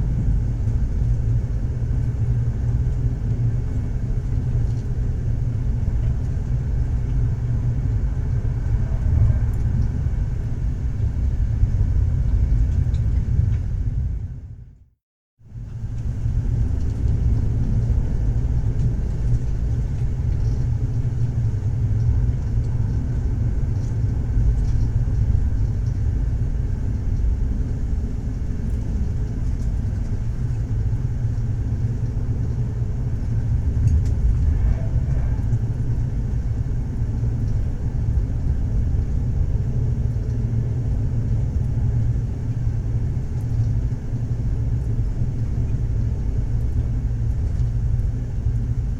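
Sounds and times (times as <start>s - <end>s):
train rumble inside carriage: 0.0s - 14.8s, 15.4s - 48.9s.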